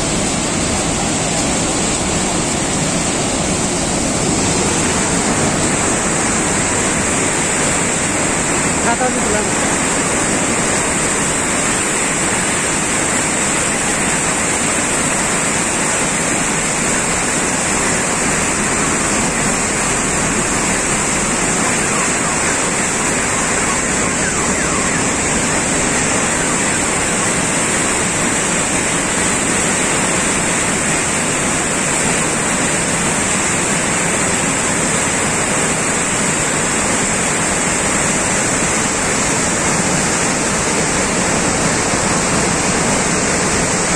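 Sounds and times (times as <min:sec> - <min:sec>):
floodwater rushing: 0:00.0 - 0:43.9.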